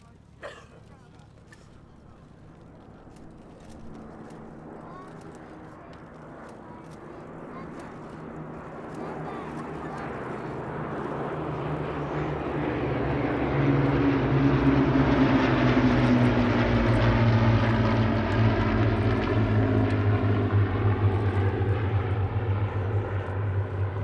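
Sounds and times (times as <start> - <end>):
propeller aircraft engines droning: 0.0 - 24.0.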